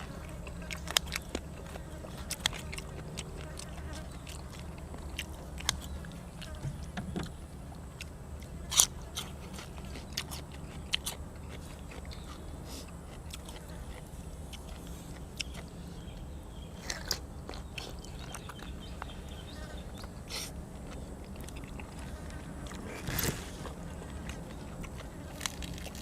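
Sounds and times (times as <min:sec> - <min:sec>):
person chewing and crunching: 0:00.0 - 0:06.6, 0:07.2 - 0:26.0
steady low hum: 0:00.0 - 0:26.0.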